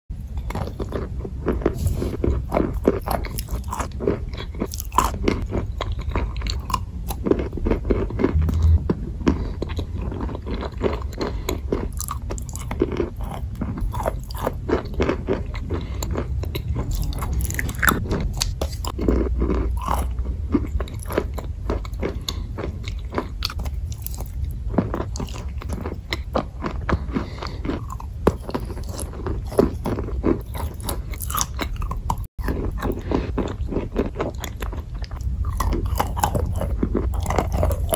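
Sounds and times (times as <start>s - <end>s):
chalk being chewed crunching: 0.4s - 37.9s.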